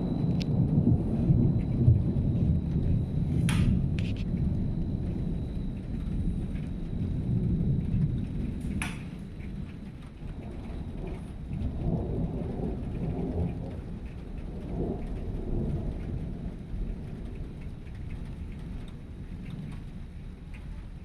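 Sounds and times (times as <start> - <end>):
rain falling: 0.0 - 21.0
thunder rumbling: 0.0 - 21.0.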